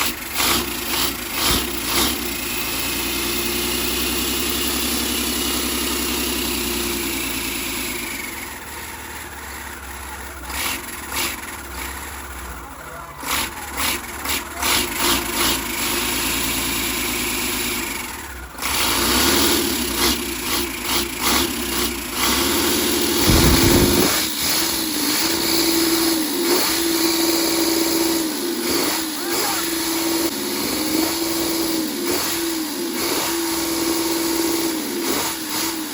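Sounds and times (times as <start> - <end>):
diesel engine cranking: 0.0 - 35.9
diesel engine running: 0.0 - 35.9.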